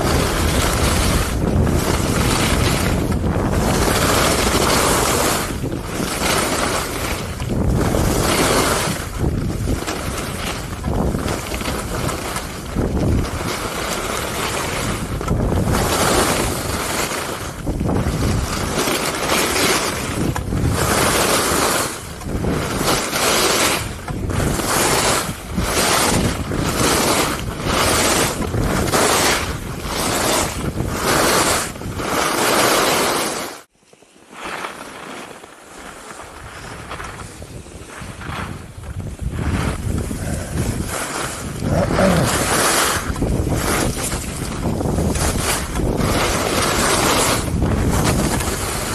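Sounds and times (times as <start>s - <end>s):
wind on camera microphone: 0.0s - 33.7s, 34.6s - 48.9s
skis scraping over snow: 0.0s - 48.9s.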